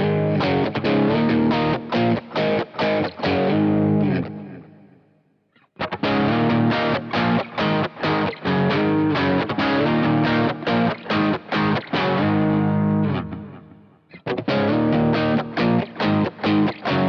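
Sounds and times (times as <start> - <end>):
distorted electric guitar chords: 0.0 - 4.9, 5.8 - 17.0.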